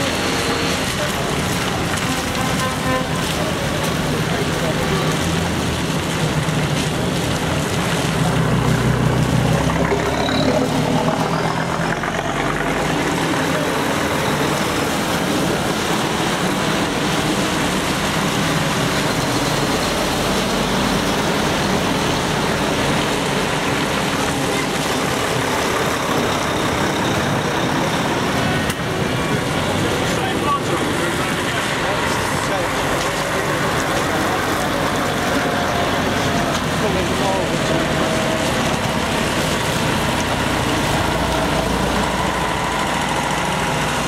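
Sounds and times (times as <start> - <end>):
diesel truck engines: 0.0 - 44.0.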